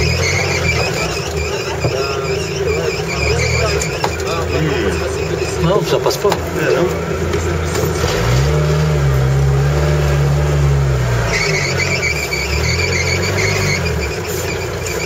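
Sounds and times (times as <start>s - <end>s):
high-pitched squeal: 0.0s - 9.2s, 11.1s - 15.0s
vehicle engine revving: 0.0s - 15.0s.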